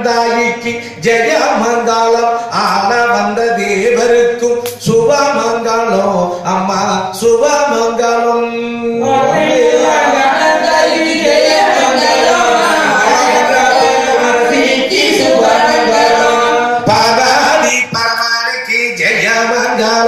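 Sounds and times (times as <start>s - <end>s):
voices chanting a hymn: 0.0s - 4.4s, 5.1s - 18.0s.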